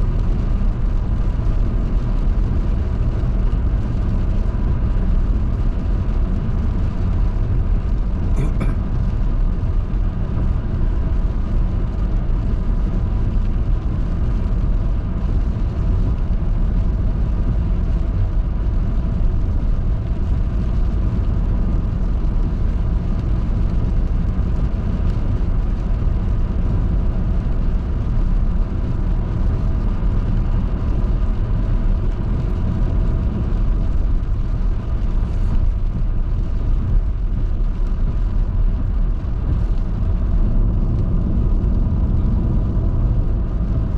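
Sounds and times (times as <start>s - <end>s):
road and engine rumble: 0.0s - 43.9s.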